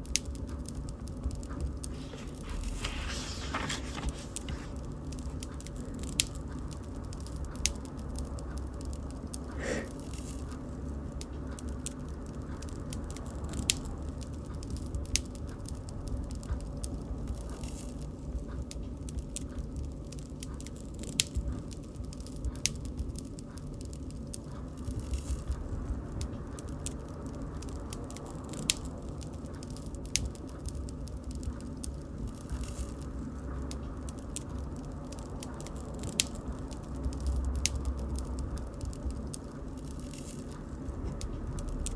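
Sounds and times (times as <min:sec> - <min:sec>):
fire rumbling: 0:00.0 - 0:41.9
wood crackling and popping: 0:00.0 - 0:41.9.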